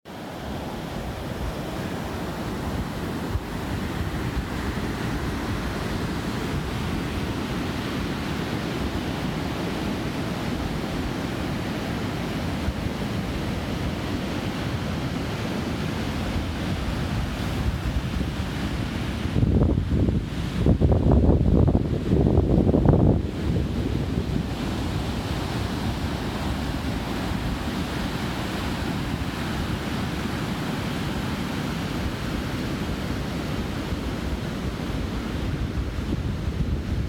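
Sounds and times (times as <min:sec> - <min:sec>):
sea waves breaking on shore: 0:00.1 - 0:37.0
wind buffeting microphone: 0:00.8 - 0:37.0.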